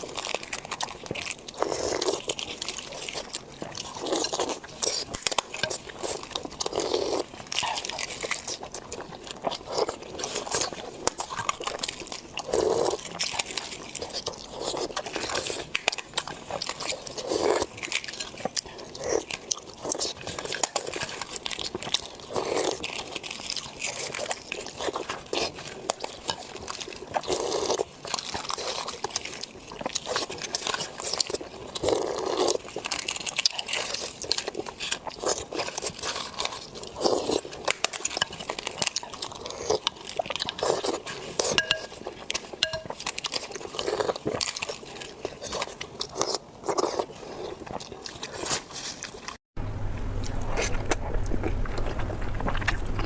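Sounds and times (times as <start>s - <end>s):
chewing and crunching food: 0.0s - 49.5s, 50.1s - 53.0s.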